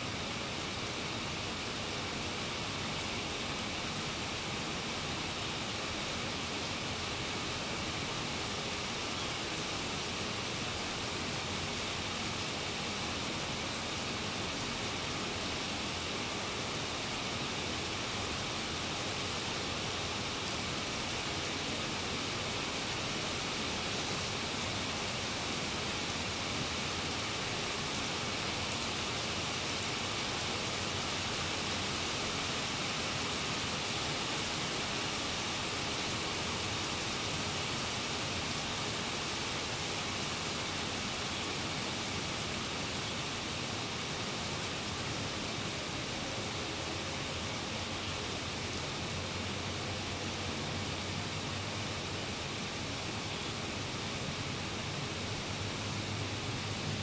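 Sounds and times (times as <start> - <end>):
rain falling on standing water: 0.0 - 57.0.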